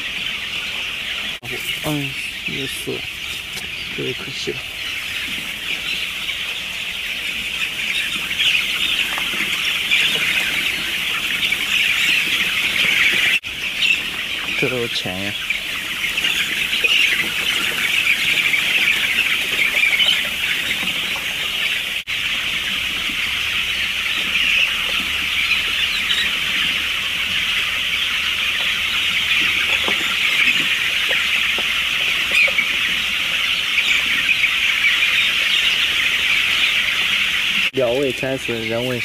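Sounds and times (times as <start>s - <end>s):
chicks peeping: 0.0s - 39.0s.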